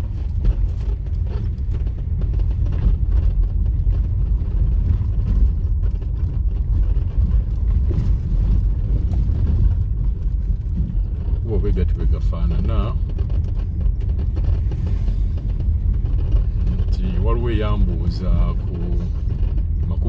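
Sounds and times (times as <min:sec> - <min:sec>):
vehicle engine and tyre rumble: 0:00.0 - 0:20.0
wind buffeting microphone: 0:00.0 - 0:20.0.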